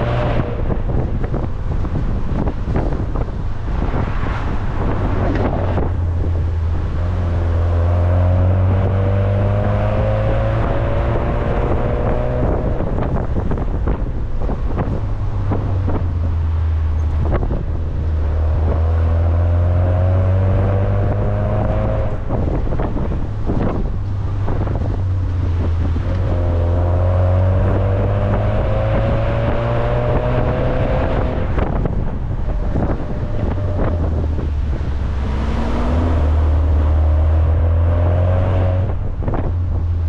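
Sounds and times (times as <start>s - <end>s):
car engine revving: 0.0s - 40.0s
wind and road noise: 0.0s - 40.0s.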